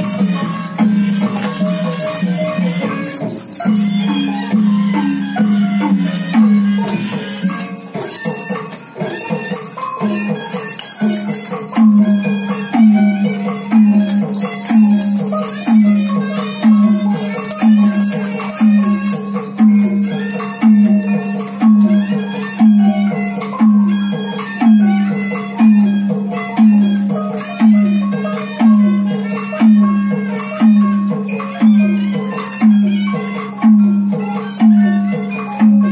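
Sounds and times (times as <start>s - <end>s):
melodic instrument notes: 0.0s - 35.9s
rattling percussion: 0.0s - 35.9s.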